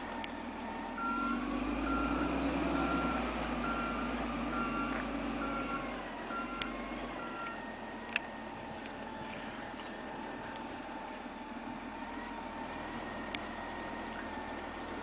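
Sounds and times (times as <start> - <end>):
low engine rumble: 0.0 - 15.0
vehicle reversing alarm beeps: 0.0 - 15.0.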